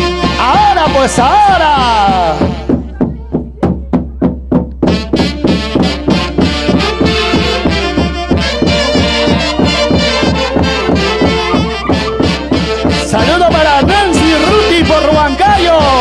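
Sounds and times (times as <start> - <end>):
live dance band playing: 0.0 - 16.0.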